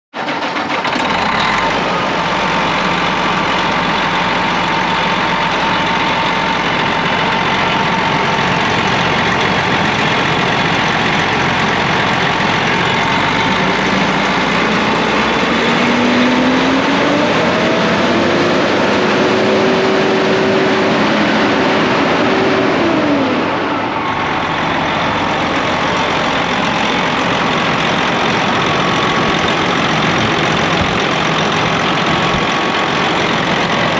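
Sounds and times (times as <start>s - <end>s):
diesel truck engine revving: 0.2s - 33.9s.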